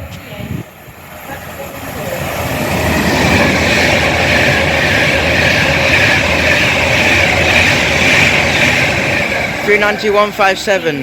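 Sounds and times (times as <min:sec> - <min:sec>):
electric train rushing past: 0:00.0 - 0:11.0.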